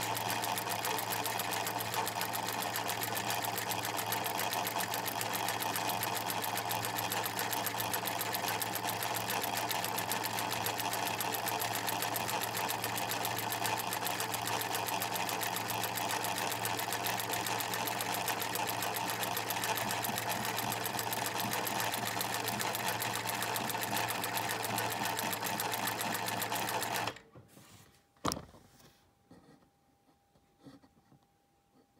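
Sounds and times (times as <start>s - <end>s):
embroidery machine running: 0.0s - 27.2s.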